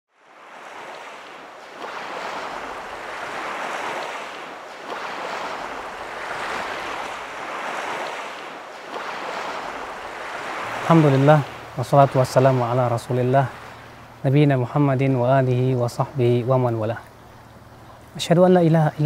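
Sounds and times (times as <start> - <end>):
sea waves washing: 0.1 - 19.0.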